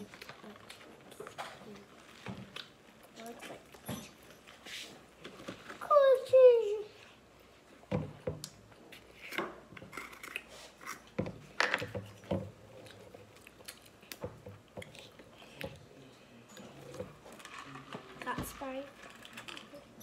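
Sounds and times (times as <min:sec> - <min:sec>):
children chewing: 0:00.0 - 0:18.3.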